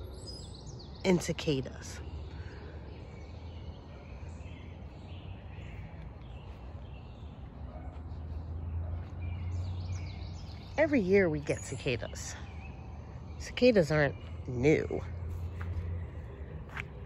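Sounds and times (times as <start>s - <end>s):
faint birdsong: 0.0s - 17.0s
steady low rumble: 2.0s - 17.0s.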